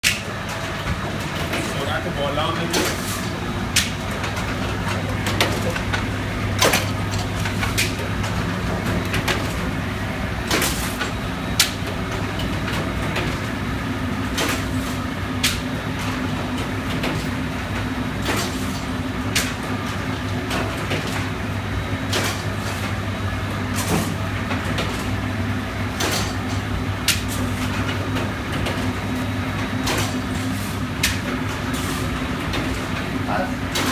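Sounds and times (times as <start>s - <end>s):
low machine hum: 0.0s - 33.9s.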